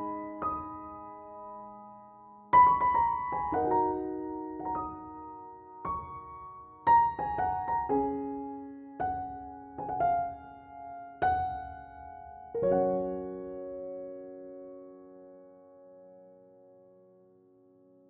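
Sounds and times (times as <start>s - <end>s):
gentle piano music: 0.0s - 18.0s.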